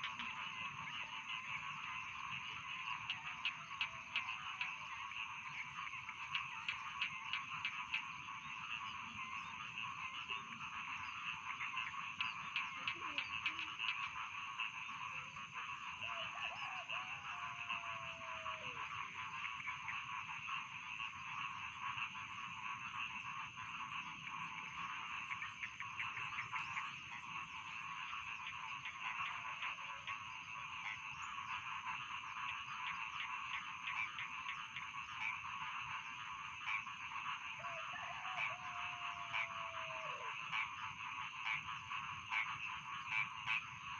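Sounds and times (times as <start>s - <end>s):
chorus of frogs croaking: 0.0s - 43.9s.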